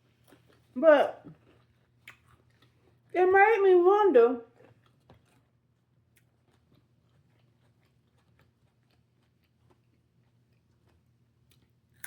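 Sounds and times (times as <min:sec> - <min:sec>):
faint chewing of food: 0:00.0 - 0:03.2, 0:04.4 - 0:12.0.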